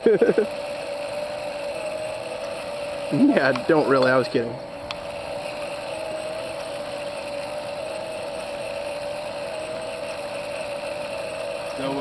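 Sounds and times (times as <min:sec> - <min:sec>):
electric motors humming: 0:00.0 - 0:12.0.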